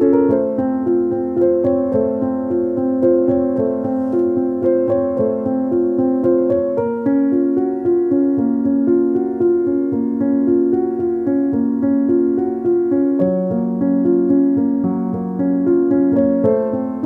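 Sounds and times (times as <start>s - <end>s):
keyboard melody: 0.0s - 17.0s.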